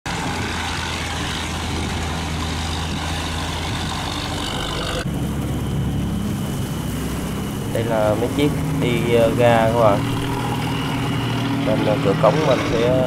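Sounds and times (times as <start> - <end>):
boat engine humming: 0.0 - 13.0
steady rushing noise: 0.1 - 13.0.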